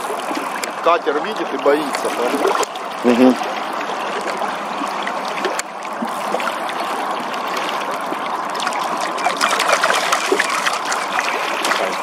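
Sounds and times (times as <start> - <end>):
river water rushing along boat: 0.0 - 12.0
small water splashes: 0.0 - 12.0.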